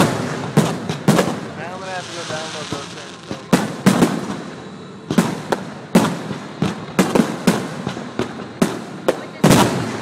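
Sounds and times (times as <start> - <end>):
fireworks bangs echoing: 0.0 - 10.0.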